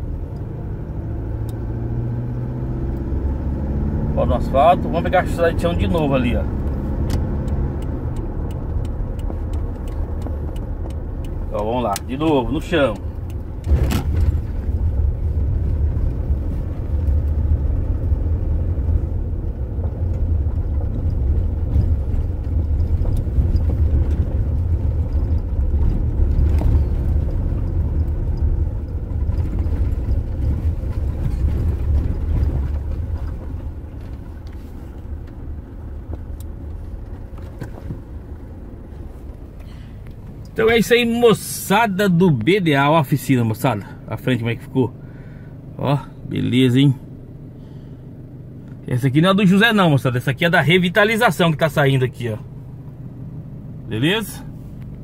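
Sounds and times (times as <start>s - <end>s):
tyres rumbling on rough dirt road: 0.0s - 55.0s.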